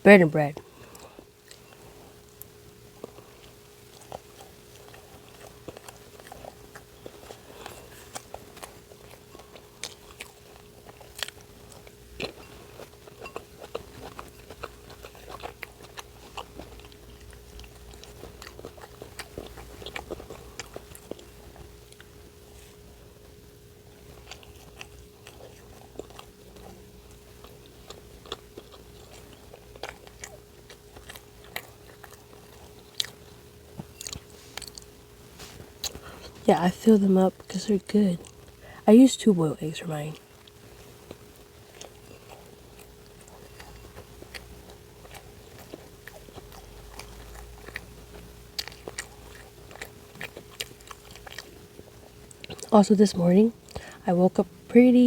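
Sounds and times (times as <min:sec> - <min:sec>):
steady low hum: 0:00.0 - 0:55.0
person chewing crunchy food: 0:00.6 - 0:38.9, 0:39.9 - 0:52.8, 0:53.5 - 0:54.7.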